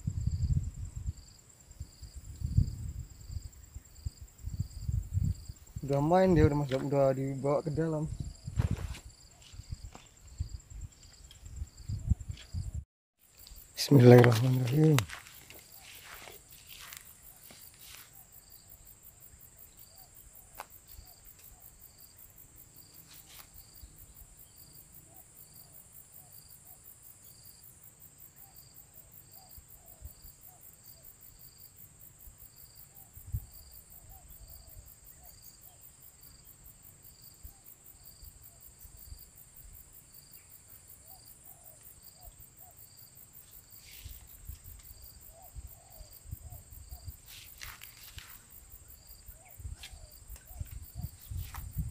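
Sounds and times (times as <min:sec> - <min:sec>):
insects buzzing chorus: 0:00.0 - 0:51.9.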